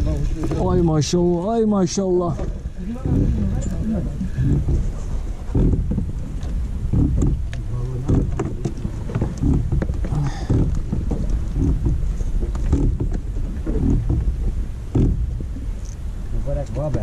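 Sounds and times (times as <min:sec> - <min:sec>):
wind buffeting microphone: 0:00.0 - 0:17.0
light clicks and knocks: 0:00.4 - 0:17.0.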